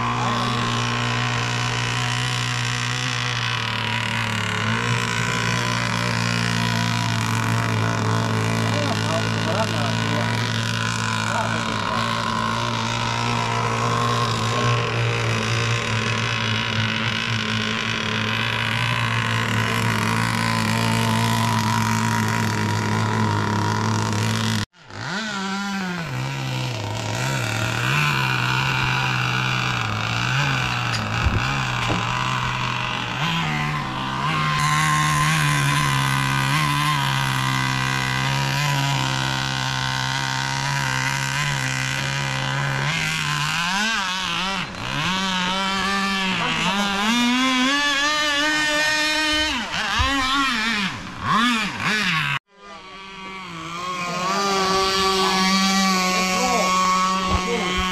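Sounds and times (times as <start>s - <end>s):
two-stroke engine running: 0.0s - 57.9s.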